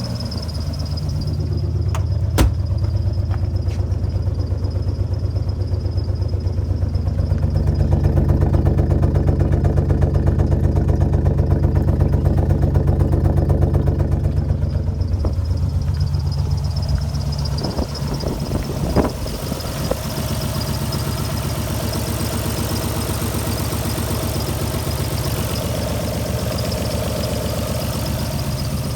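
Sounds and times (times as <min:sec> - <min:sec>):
car engine idling rough: 0:00.0 - 0:28.9.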